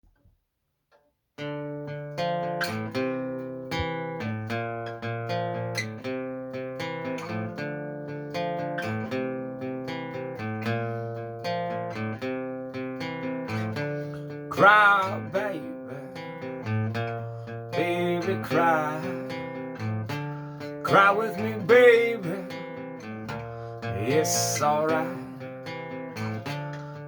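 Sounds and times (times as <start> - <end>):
acoustic guitar picking chords: 1.4 - 27.0.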